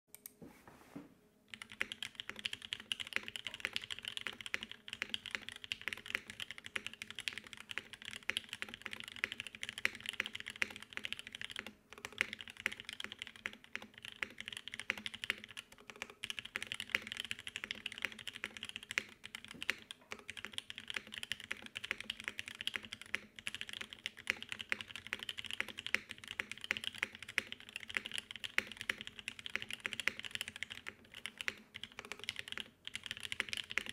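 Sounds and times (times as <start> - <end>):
mechanical keyboard typing: 1.5 - 33.9.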